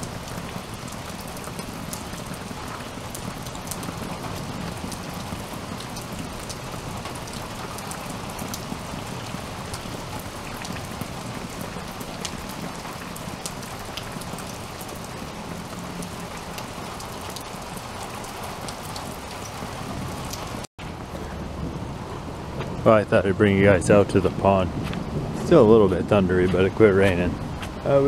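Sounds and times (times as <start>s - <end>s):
raindrops clicking close by: 0.0s - 28.0s
steady rain falling: 0.0s - 28.0s.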